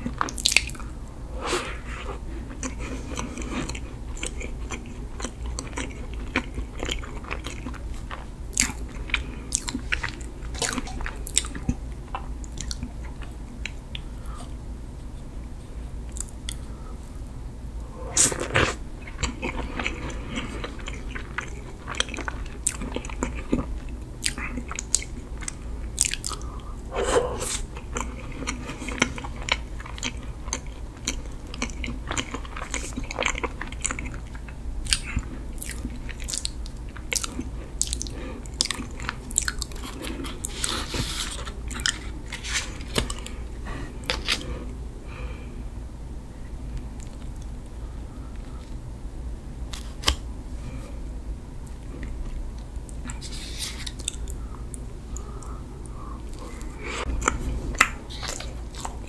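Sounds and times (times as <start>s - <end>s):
chewing cake: 0.0s - 15.3s, 17.9s - 44.8s, 51.6s - 59.0s.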